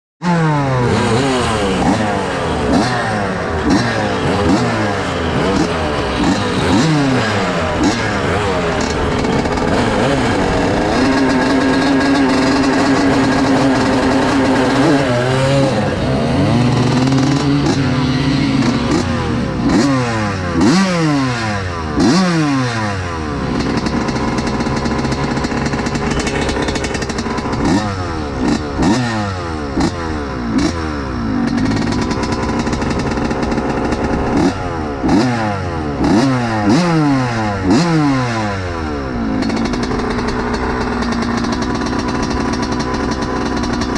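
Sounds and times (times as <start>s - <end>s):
motocross bikes racing: 0.2s - 43.9s.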